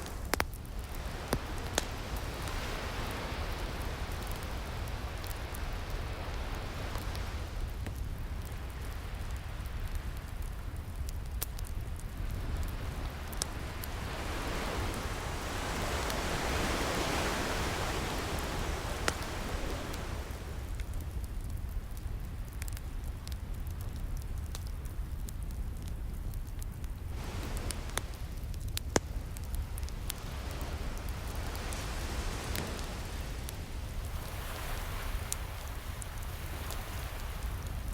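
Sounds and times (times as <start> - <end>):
ocean waves washing in: 0.0 - 21.4, 27.1 - 37.9
wood fire crackling: 0.0 - 37.9.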